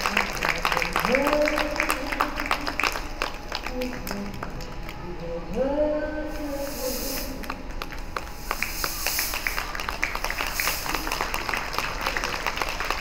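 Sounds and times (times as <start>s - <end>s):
audience applause: 0.0s - 5.0s, 7.4s - 13.0s.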